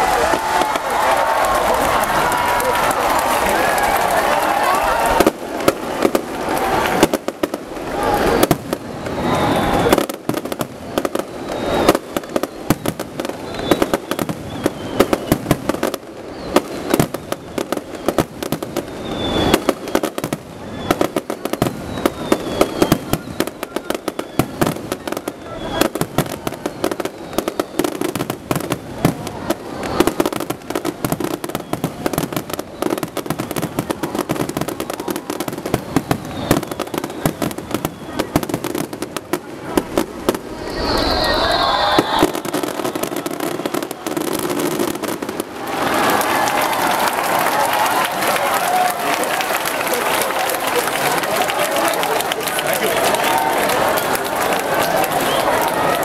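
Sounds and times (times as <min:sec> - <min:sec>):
fireworks bursting: 0:00.0 - 0:56.0
fireworks crackling: 0:00.0 - 0:56.0.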